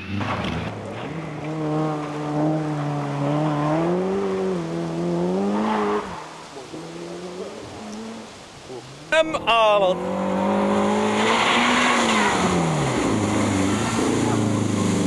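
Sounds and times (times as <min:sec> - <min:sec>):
rally car engine revving: 0:00.0 - 0:09.2, 0:09.8 - 0:15.0.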